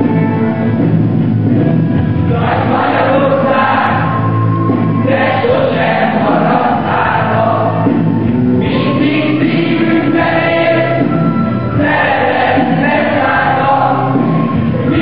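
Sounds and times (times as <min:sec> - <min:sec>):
sustained instrumental accompaniment: 0:00.0 - 0:15.0
choir singing: 0:02.3 - 0:15.0.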